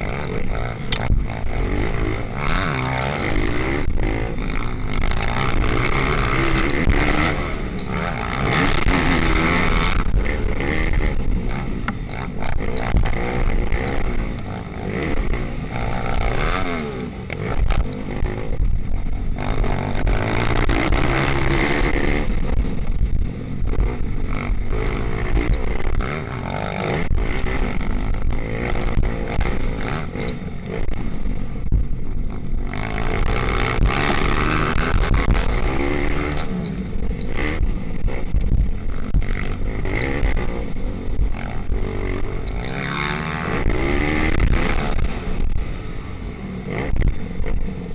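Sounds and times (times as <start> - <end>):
pit bike engines revving: 0.0 - 47.9.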